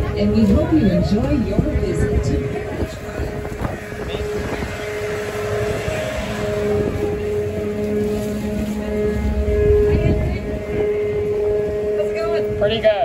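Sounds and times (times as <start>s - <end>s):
boat engine humming: 0.0s - 13.0s
wind and water rumble: 0.0s - 13.0s.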